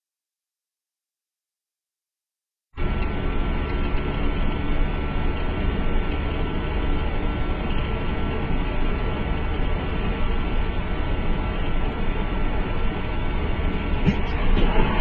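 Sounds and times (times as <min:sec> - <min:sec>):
vehicle running noise: 0:02.8 - 0:15.0.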